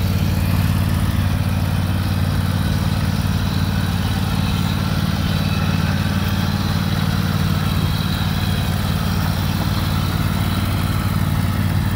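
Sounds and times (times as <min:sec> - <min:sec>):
riding lawn mower engine humming: 0:00.0 - 0:11.9.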